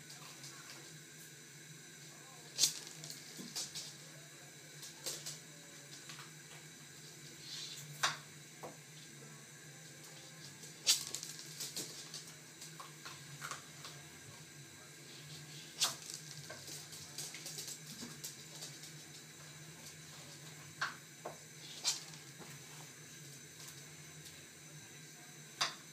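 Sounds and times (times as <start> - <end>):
faint low hum: 0.0 - 25.9.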